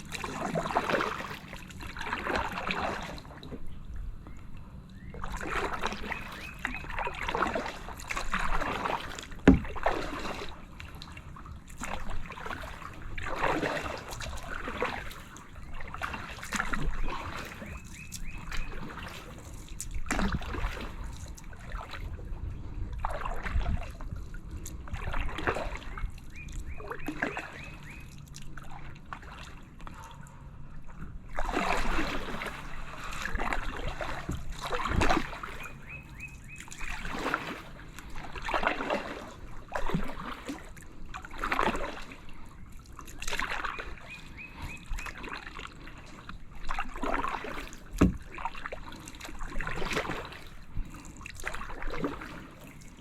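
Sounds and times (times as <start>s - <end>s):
kayak paddle strokes in water: 0.0s - 53.0s.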